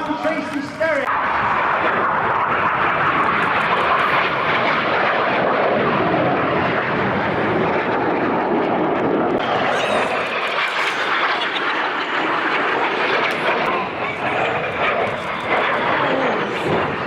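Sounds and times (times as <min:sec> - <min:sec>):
jets flying overhead: 0:00.0 - 0:17.0.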